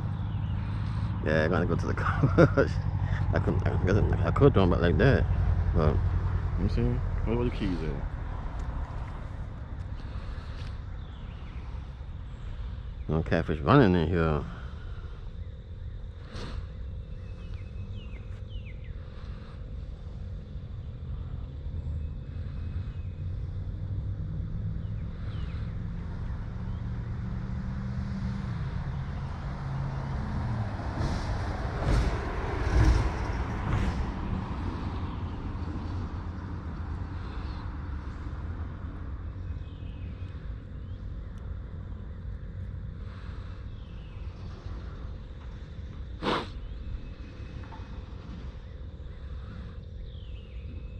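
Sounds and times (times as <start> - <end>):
motor vehicle passing: 0.0 - 50.5.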